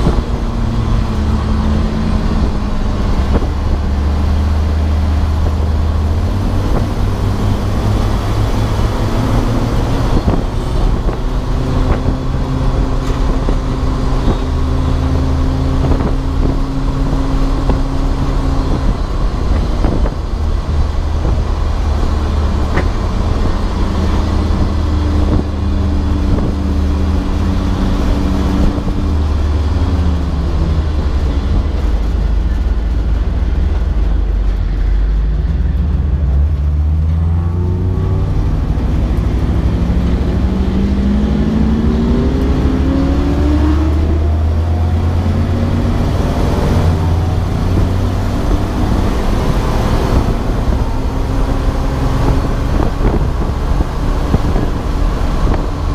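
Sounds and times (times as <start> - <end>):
race car engine: 0.0 - 55.9
road and wind noise: 0.0 - 55.9.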